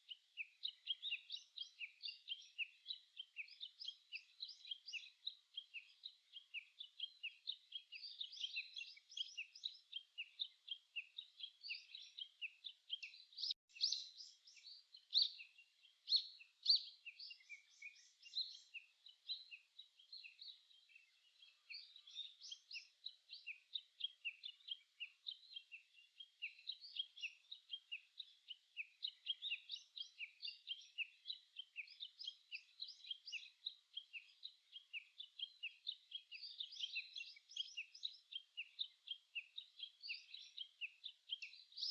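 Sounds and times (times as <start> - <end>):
songbirds chirping chorus: 0.0 - 41.9.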